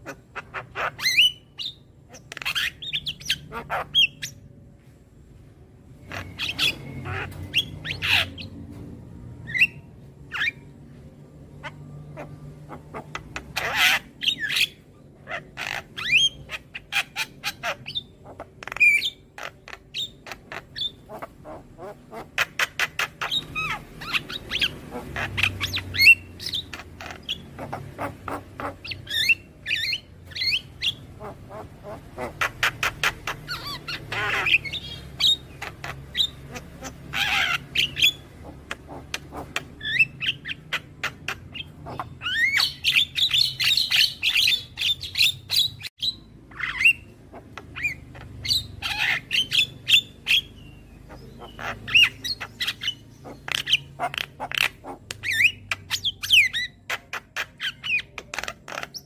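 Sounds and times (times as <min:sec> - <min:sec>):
myna bird calling: 0:00.0 - 0:04.5, 0:06.0 - 0:08.7, 0:09.4 - 0:59.0.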